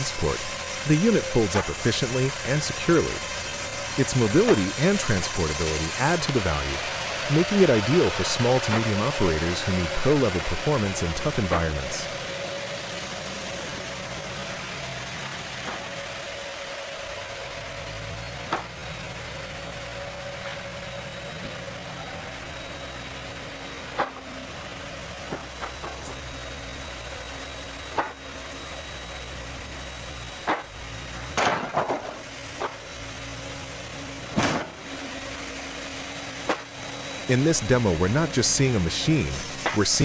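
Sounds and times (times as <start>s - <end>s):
sawmill engine running: 0.0s - 40.0s.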